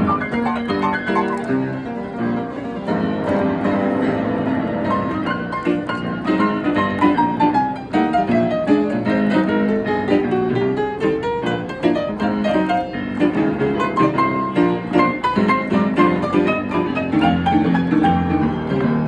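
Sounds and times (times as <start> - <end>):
upright piano four hands: 0.0 - 19.0.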